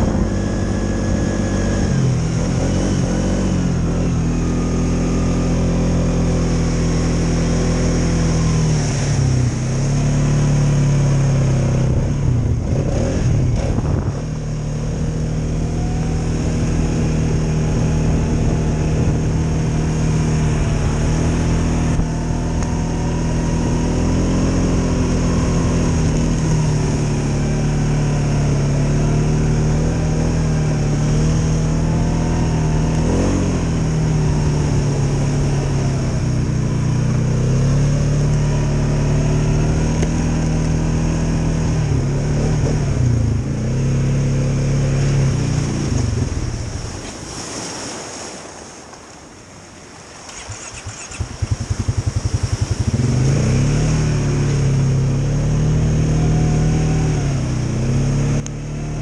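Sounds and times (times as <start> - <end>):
atv engine revving: 0.0 - 47.1, 50.2 - 59.0.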